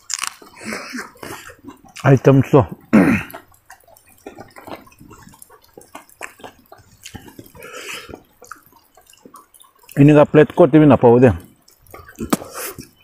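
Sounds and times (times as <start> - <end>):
wet clicks and smacks of eating: 0.0 - 13.0.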